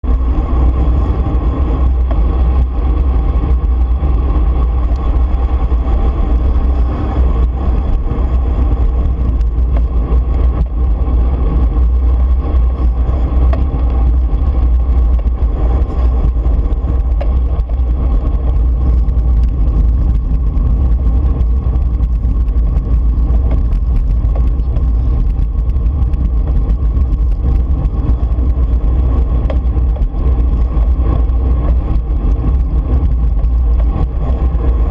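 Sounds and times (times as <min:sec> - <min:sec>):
bicycle tyre road noise: 0:00.0 - 0:34.9
wind rumble on microphone: 0:00.0 - 0:34.9.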